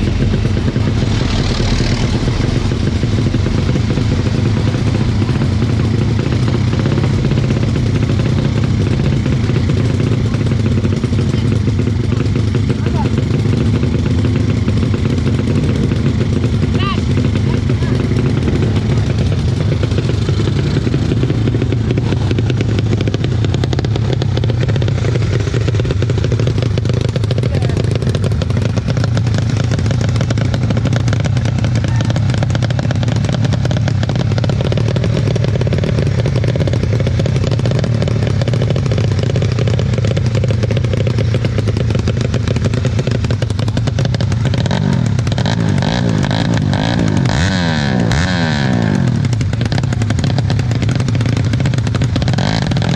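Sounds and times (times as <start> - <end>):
motorcycle engines running: 0.0 - 52.9.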